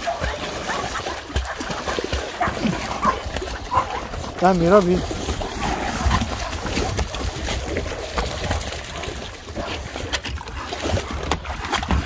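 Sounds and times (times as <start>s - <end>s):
dogs splashing in pool water: 0.0s - 12.0s.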